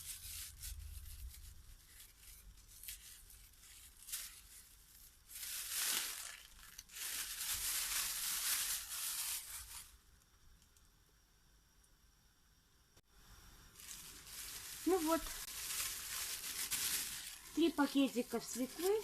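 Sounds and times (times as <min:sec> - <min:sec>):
plastic bags crinkling: 0:00.0 - 0:10.0, 0:13.8 - 0:19.0.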